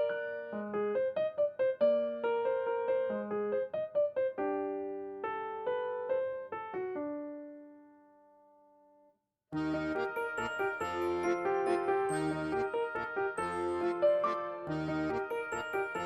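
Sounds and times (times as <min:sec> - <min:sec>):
gentle electric piano melody: 0:00.0 - 0:08.8, 0:09.6 - 0:16.0.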